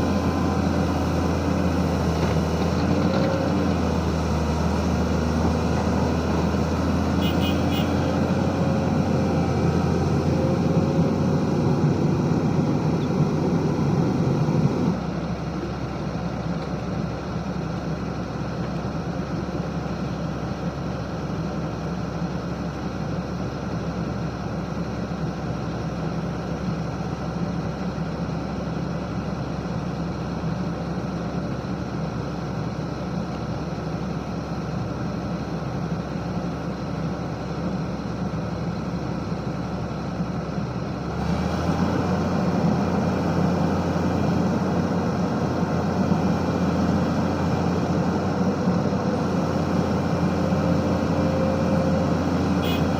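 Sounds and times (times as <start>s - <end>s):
heavy diesel engine droning: 0.0s - 52.9s.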